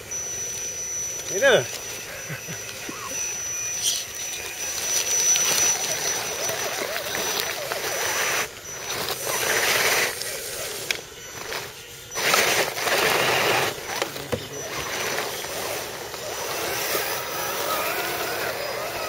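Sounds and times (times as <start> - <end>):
rc truck motors whirring: 0.0 - 19.0
tyres scrabbling in soil: 1.1 - 19.0.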